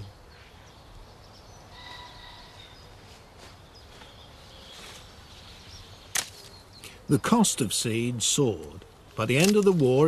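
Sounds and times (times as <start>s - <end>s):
low steady outdoor ambience: 0.0s - 10.0s.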